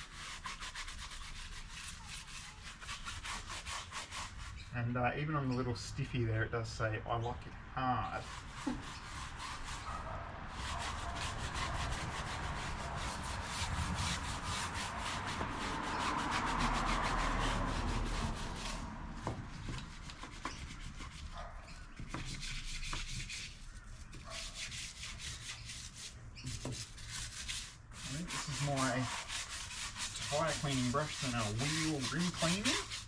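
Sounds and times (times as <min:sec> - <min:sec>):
brush scrubbing a tyre: 0:00.0 - 0:04.7, 0:08.1 - 0:33.0.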